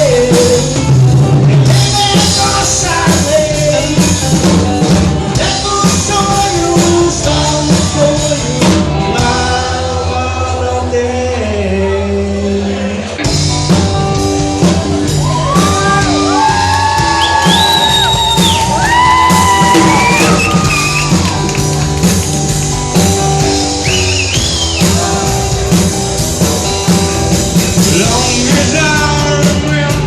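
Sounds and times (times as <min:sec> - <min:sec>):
bass guitar: 0:00.0 - 0:30.0
drums: 0:00.0 - 0:30.0.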